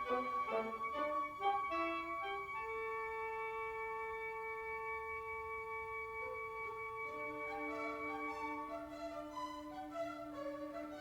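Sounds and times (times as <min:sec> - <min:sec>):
woodwinds steady notes: 0:00.0 - 0:11.0.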